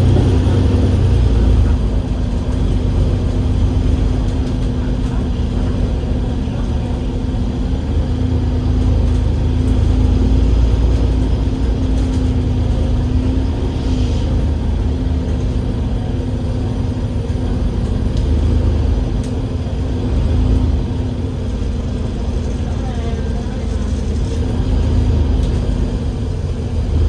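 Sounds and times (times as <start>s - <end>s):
bus diesel engine rumble: 0.0s - 27.0s.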